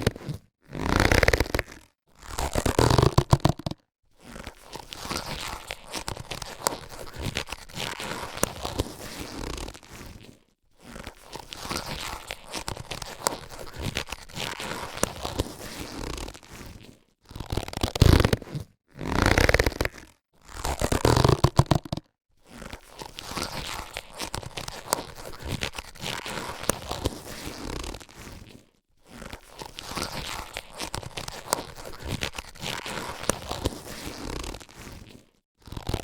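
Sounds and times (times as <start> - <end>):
latex gloves stretching and rubbing: 0.0 - 36.0.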